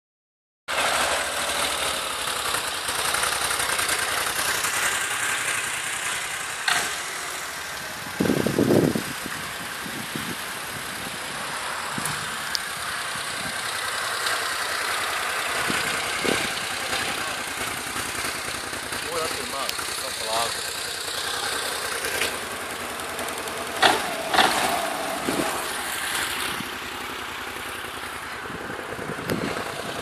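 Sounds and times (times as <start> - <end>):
scooter engine idling: 0.7 - 30.0.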